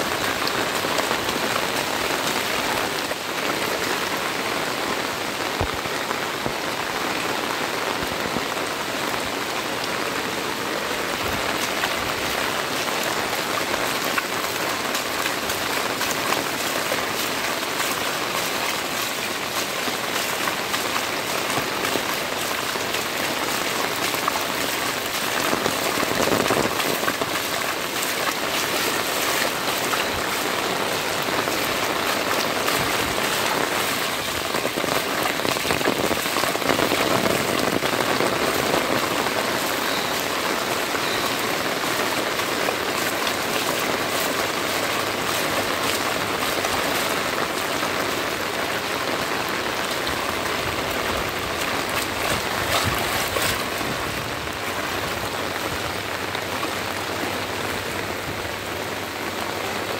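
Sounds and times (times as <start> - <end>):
heavy rain on standing water: 0.0 - 59.9.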